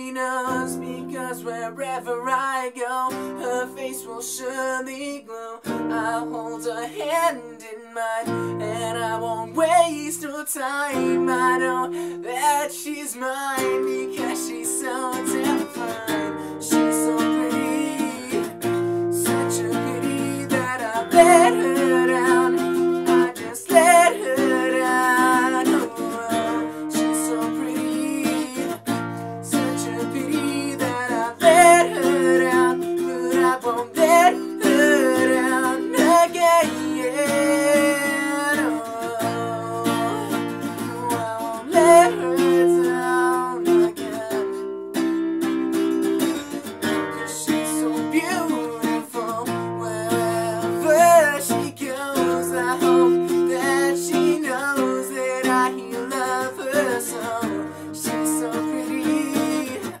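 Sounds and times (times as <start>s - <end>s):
classical guitar chords: 0.0s - 5.0s, 5.6s - 60.0s
man singing: 0.0s - 60.0s.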